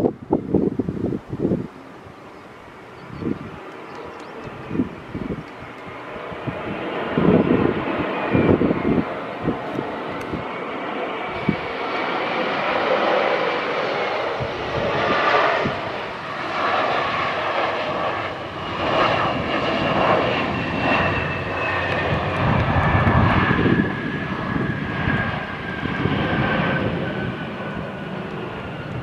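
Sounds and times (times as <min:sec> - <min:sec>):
jet engines whining and rushing: 0:00.0 - 0:29.0.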